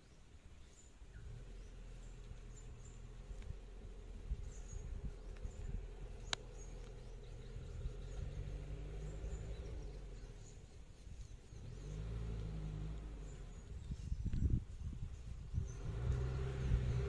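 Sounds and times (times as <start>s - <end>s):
idling vehicle engines hum: 0.6s - 17.0s
high bird chirps: 0.7s - 17.0s.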